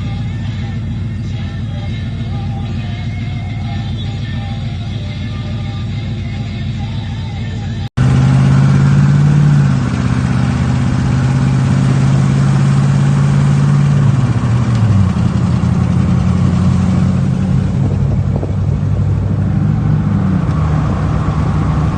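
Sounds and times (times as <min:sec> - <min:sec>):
gasoline engine idling: 0:00.0 - 0:21.9.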